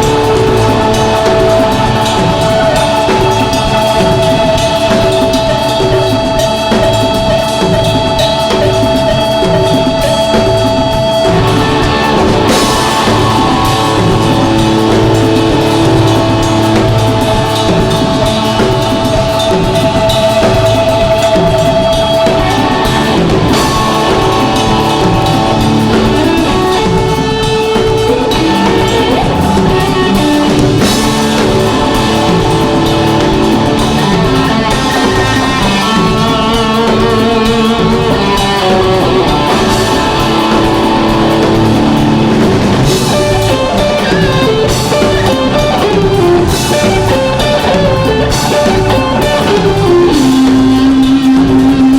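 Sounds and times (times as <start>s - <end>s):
drum kit: 0.0s - 51.9s
electric guitar: 0.0s - 51.9s
held organ chords: 0.0s - 51.9s.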